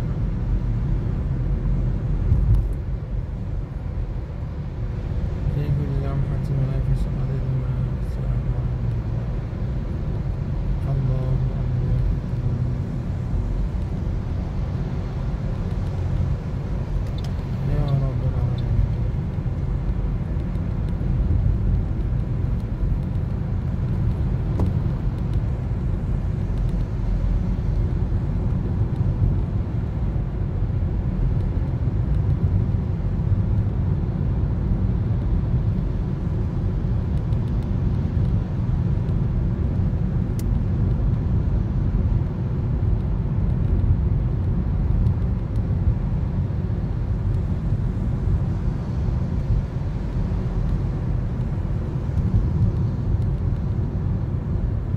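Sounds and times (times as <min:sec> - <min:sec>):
car driving rumble inside cabin: 0:00.0 - 0:54.9.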